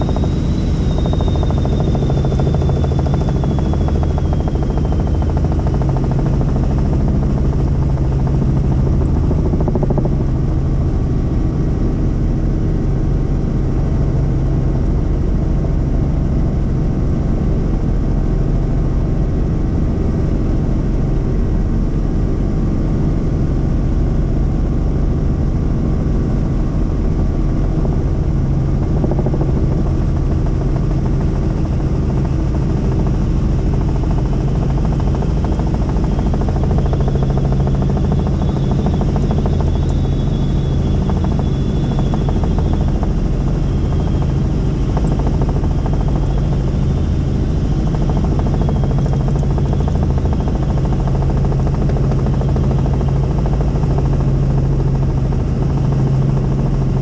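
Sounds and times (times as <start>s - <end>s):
constant low hum: 0.0s - 57.0s
helicopter engine and rotor drone: 0.0s - 57.0s.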